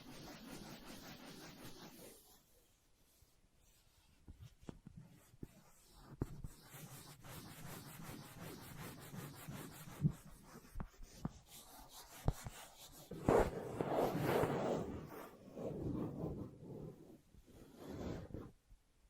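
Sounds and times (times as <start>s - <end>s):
light scratchy strokes: 0.0s - 18.6s.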